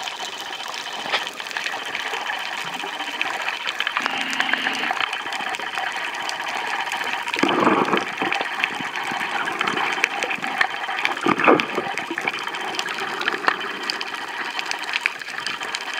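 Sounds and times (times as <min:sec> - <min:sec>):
water surges: 0:00.0 - 0:15.9.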